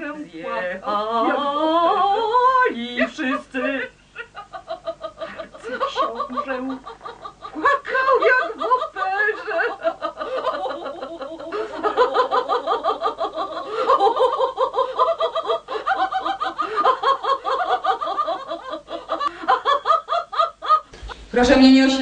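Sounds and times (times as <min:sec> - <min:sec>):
woman laughing hard: 0:02.7 - 0:21.1.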